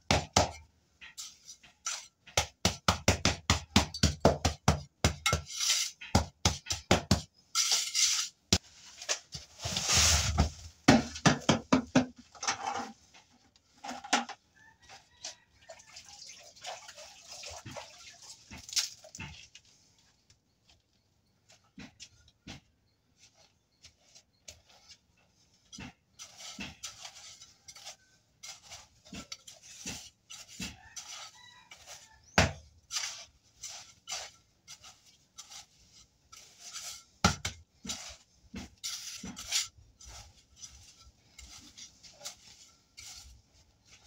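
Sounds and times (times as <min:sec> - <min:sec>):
trowel scraping and knocking on mortar: 0:00.0 - 0:14.4, 0:17.6 - 0:19.8, 0:21.6 - 0:44.0.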